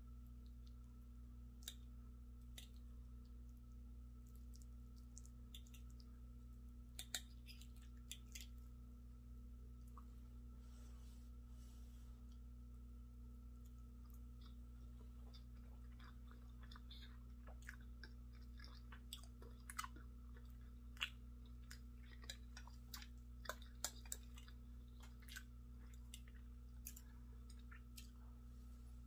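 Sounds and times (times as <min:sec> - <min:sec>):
low hum: 0:00.0 - 0:29.0
person chewing food: 0:00.3 - 0:08.8, 0:13.5 - 0:28.5.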